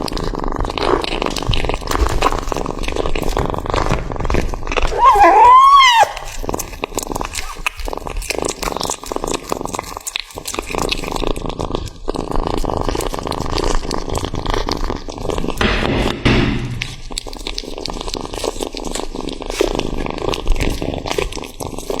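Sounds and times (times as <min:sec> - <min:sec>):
cat chewing and smacking: 0:00.0 - 0:05.4, 0:06.2 - 0:16.1, 0:16.8 - 0:22.0.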